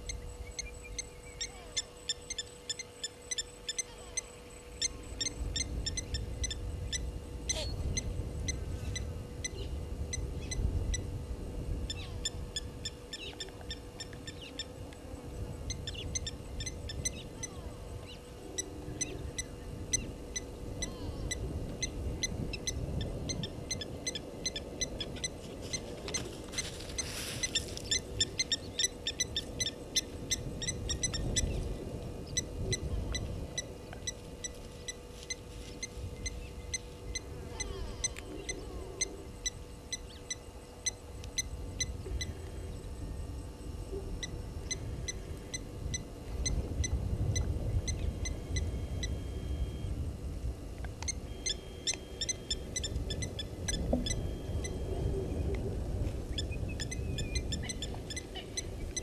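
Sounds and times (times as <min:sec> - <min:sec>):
faint steady hum: 0:00.0 - 0:59.0
low wind rumble: 0:00.0 - 0:59.0.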